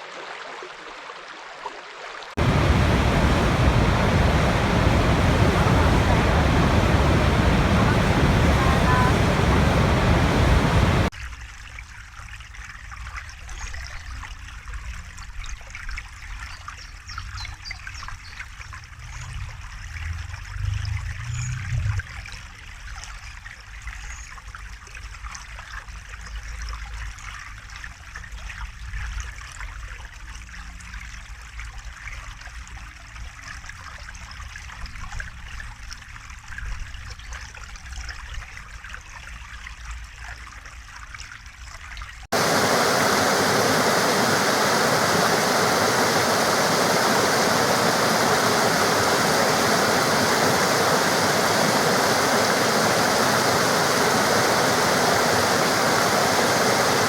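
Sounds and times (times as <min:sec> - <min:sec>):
stream trickling: 0:00.0 - 0:57.0.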